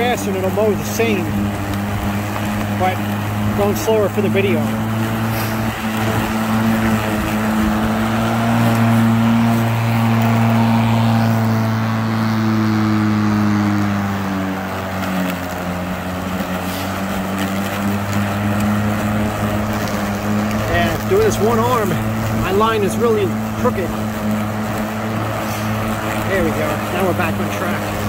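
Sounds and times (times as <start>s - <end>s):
electric lawn mower humming: 0.0s - 28.0s.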